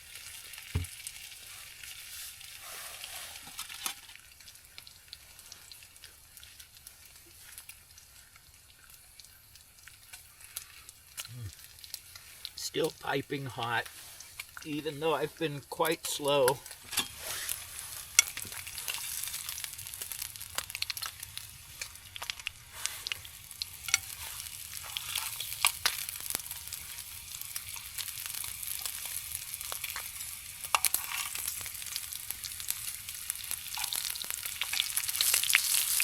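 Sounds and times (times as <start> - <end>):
bacon sizzling in a frying pan: 0.0 - 36.0.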